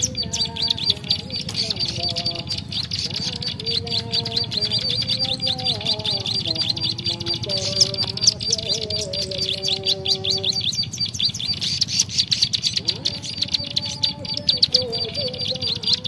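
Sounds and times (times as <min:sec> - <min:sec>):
rapid high bird chirps: 0:00.0 - 0:16.0.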